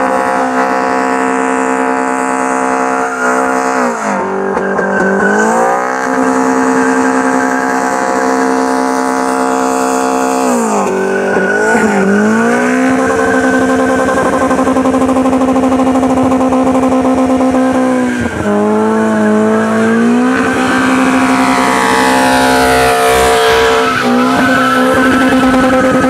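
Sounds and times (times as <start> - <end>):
car engine revving high: 0.0 - 26.0.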